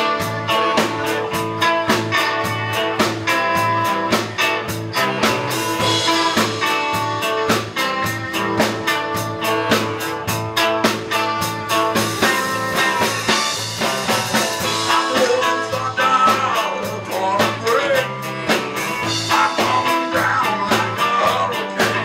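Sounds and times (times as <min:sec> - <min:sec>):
live rock band playing: 0:00.0 - 0:22.0
steady drum beat: 0:00.0 - 0:22.0.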